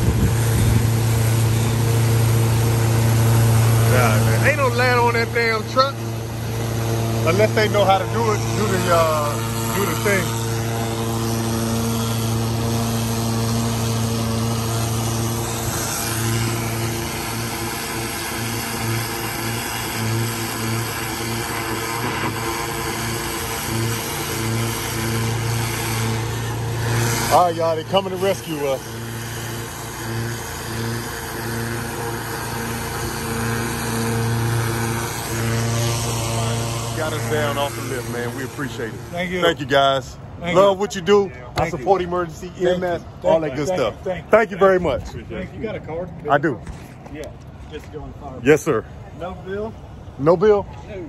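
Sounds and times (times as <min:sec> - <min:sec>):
engine droning: 0:00.0 - 0:51.0.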